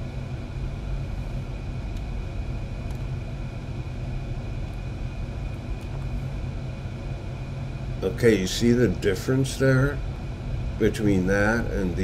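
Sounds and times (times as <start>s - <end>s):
faint high whine: 0.0s - 12.0s
low background rumble: 0.0s - 12.0s.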